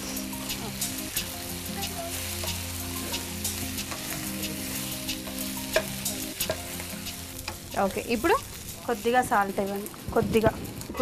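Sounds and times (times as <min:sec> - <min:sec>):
mushrooms sizzling in hot oil: 0:00.0 - 0:11.0.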